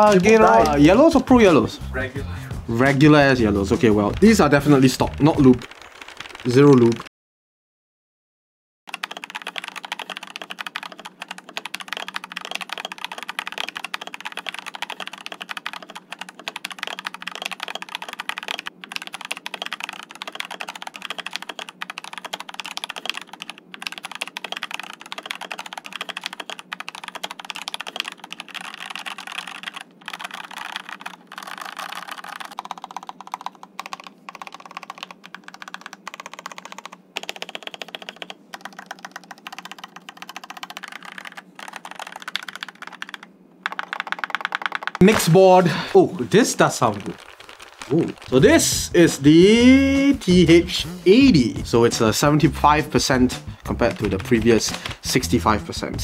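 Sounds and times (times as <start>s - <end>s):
fast mechanical keyboard typing: 3.7s - 7.1s, 8.9s - 50.8s, 52.9s - 55.2s.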